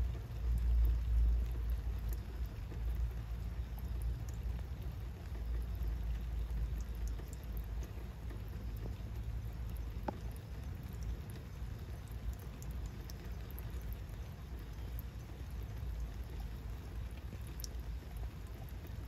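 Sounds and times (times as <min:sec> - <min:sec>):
rain falling: 0:00.0 - 0:19.0
water dripping onto wet asphalt: 0:00.0 - 0:19.0.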